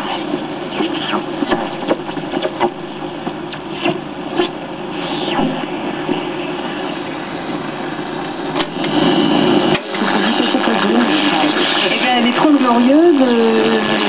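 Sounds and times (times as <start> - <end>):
radio static and hiss: 0.0 - 14.0.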